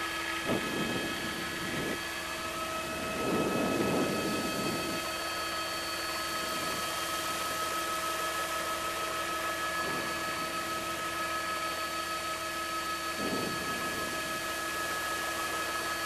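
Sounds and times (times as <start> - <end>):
helicopter cabin noise: 0.0 - 16.0.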